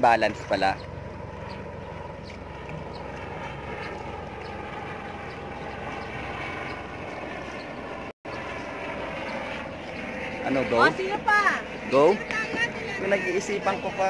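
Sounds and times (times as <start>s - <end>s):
steady engine drone: 0.0s - 14.0s.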